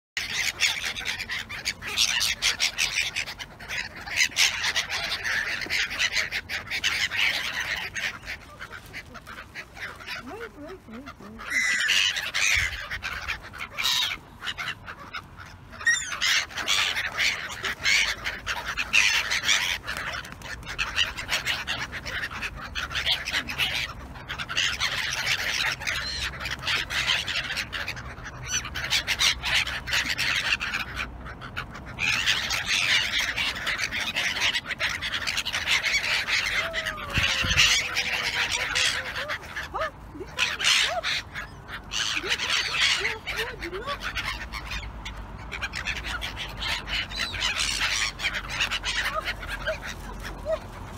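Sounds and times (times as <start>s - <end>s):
gulls calling: 0.2s - 50.9s.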